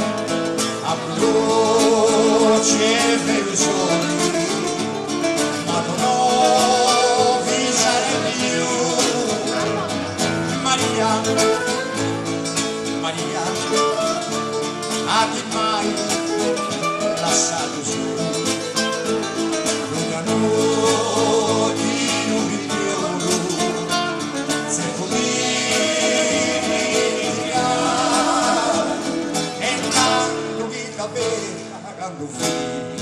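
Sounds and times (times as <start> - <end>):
acoustic guitars strumming: 0.0 - 33.0
man singing: 0.0 - 33.0.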